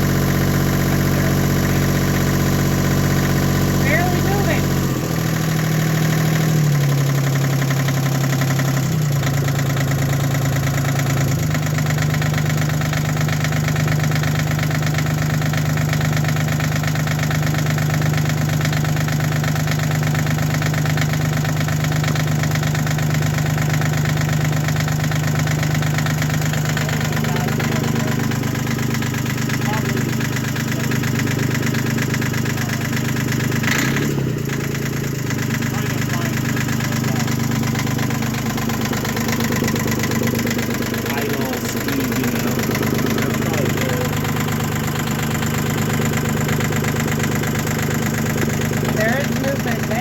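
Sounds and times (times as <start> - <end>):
boat engine idling: 0.0 - 50.0.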